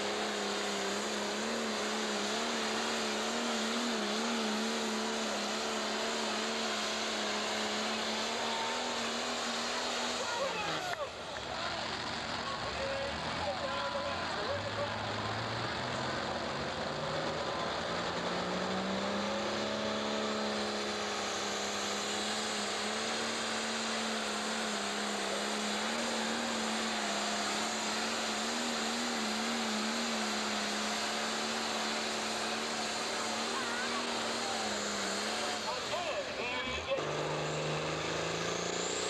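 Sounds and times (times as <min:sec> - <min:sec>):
diesel tractor engine revving: 0:00.0 - 0:39.0.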